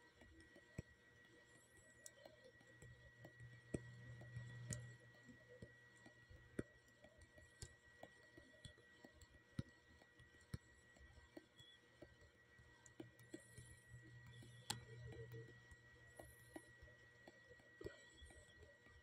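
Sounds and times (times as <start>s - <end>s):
faint clicks: 0.1s - 19.0s.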